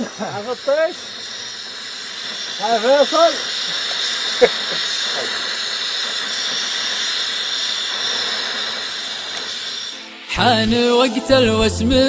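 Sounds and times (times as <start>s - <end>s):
steady background hiss: 0.0s - 10.4s.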